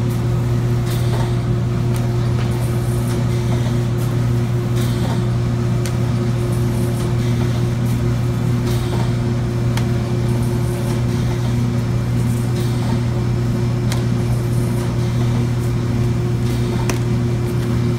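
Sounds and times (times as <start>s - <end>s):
printer machine hum: 0.0s - 17.9s.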